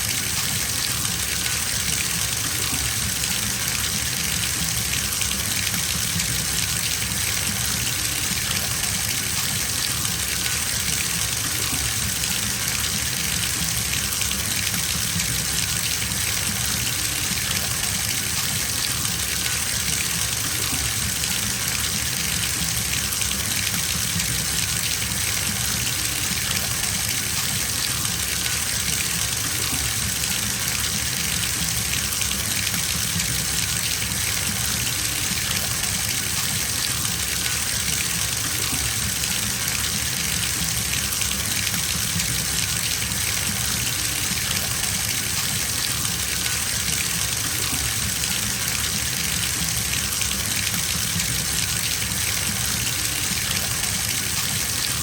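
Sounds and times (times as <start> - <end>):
tap water gushing into bathtub: 0.0 - 55.0.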